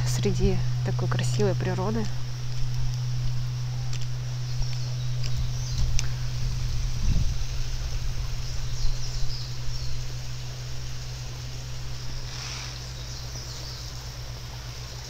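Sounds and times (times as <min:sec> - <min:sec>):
low rumble: 0:00.0 - 0:14.9
soft hiss: 0:00.0 - 0:15.0.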